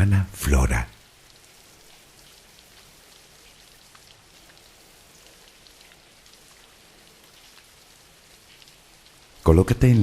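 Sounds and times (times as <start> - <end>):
raindrops ticking on a surface: 0.0 - 10.0
soft steady rain: 0.0 - 10.0.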